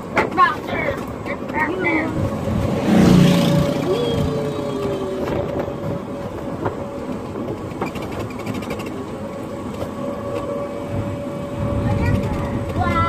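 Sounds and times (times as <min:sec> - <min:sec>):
cab body rattling: 0:00.0 - 0:02.8, 0:03.9 - 0:10.5, 0:11.7 - 0:13.0
road rumble: 0:00.0 - 0:13.0.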